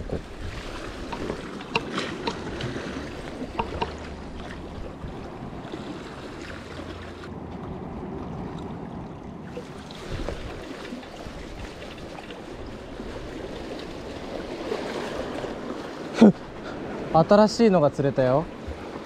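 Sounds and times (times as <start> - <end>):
wind rumble on microphone: 0.0 - 15.8
seawater lapping among concrete: 0.0 - 19.0.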